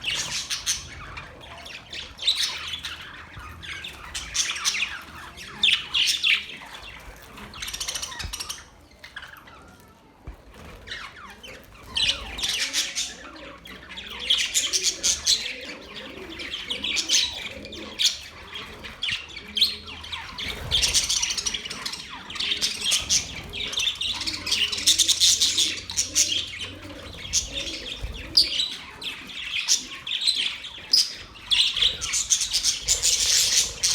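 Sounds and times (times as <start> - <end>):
budgerigars chirping and warbling: 0.0 - 10.0, 10.6 - 33.9.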